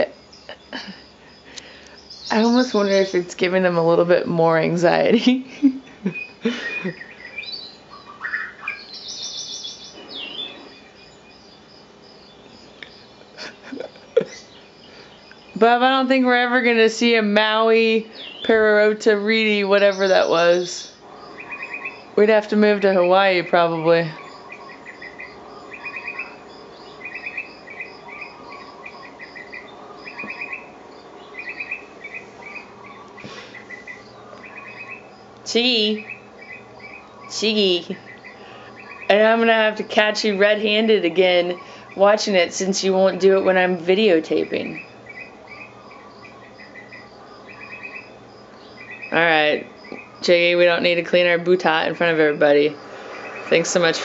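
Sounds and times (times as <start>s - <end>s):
recorded birdsong from television: 0.0s - 54.0s.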